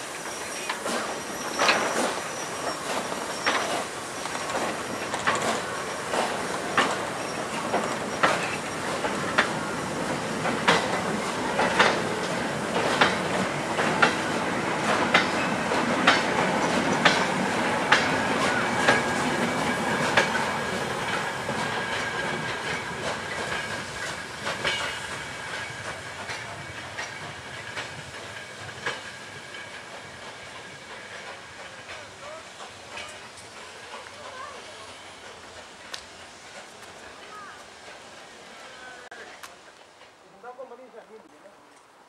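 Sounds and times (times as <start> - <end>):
train wheels clicking over rail joints: 0.0 - 40.7
train rumble: 0.0 - 41.3.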